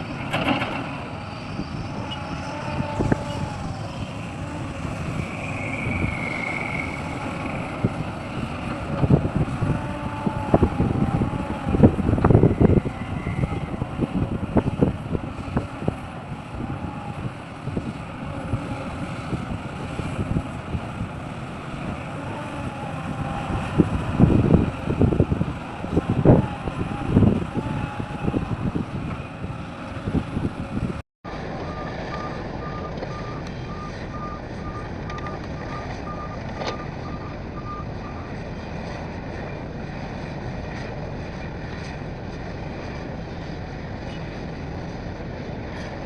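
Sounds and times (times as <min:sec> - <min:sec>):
diesel machinery running: 0:00.0 - 0:46.0
wind on microphone: 0:00.0 - 0:46.0.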